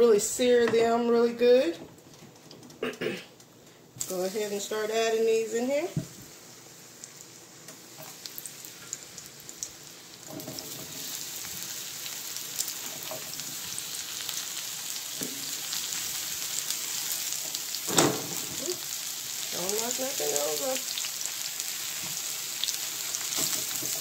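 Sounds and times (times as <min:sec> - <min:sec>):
mushrooms sizzling in hot oil: 0:03.9 - 0:24.0.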